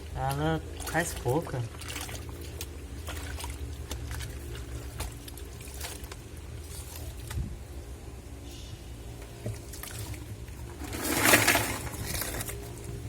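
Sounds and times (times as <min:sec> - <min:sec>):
water swishing: 0:00.0 - 0:08.0, 0:09.3 - 0:12.9
washing machine motor hum: 0:00.0 - 0:13.0.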